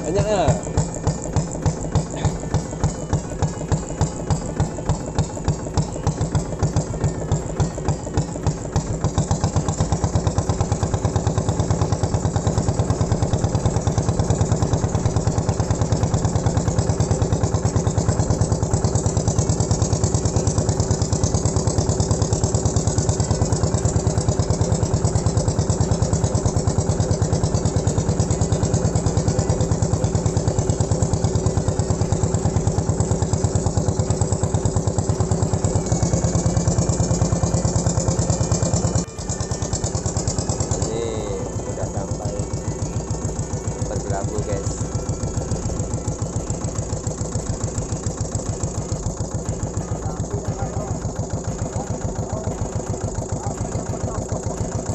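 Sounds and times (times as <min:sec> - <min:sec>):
boat engine chugging: 0:00.0 - 0:54.9.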